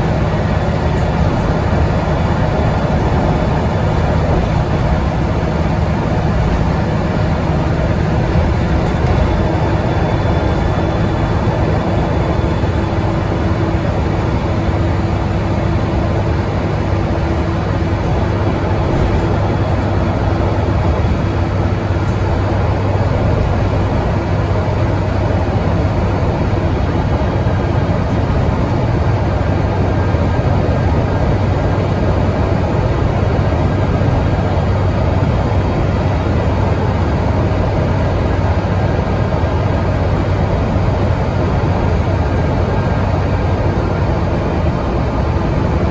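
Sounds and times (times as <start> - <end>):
bus diesel engine at full throttle: 0.0 - 45.9
road noise: 0.0 - 45.9.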